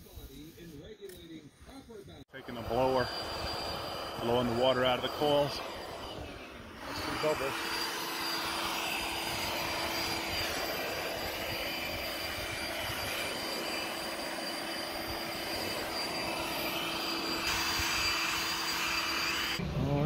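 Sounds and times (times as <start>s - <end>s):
cordless blower whining: 2.4s - 20.0s.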